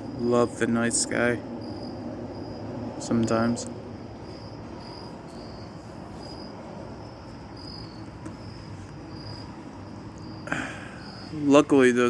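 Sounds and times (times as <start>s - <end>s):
crickets chirping: 0.0s - 12.0s
low background noise: 0.0s - 12.0s.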